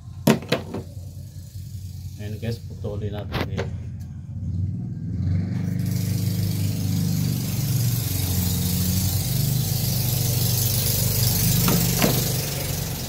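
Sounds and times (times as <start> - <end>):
engine idling: 0.0 - 5.0, 5.6 - 13.0.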